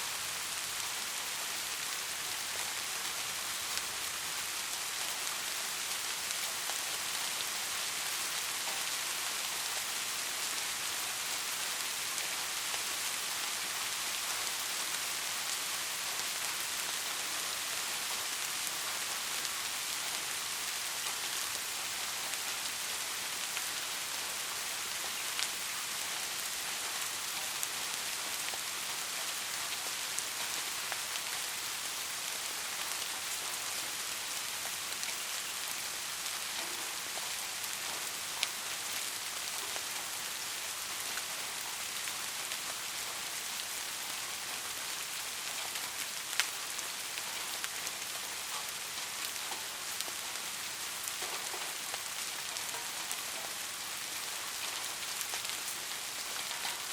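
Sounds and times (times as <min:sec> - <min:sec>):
soft rain hissing: 0:00.0 - 0:56.9.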